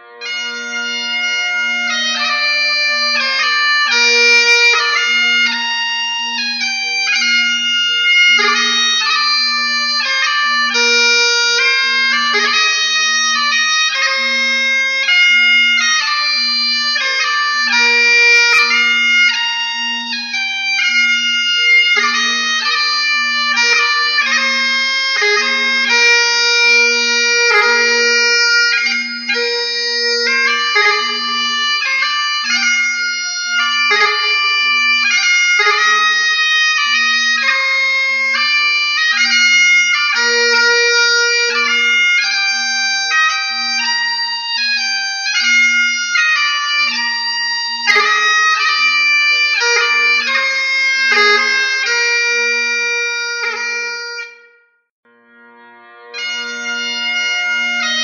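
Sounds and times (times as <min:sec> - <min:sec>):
bagpipes playing: 0:00.0 - 0:58.0.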